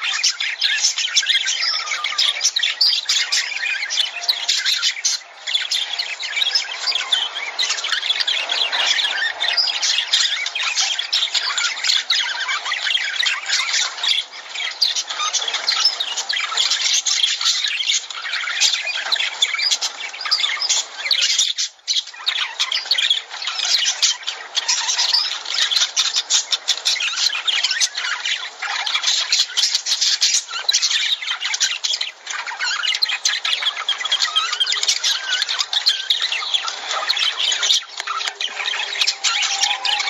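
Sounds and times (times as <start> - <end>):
lovebirds squawking and chirping: 0.0 - 40.0.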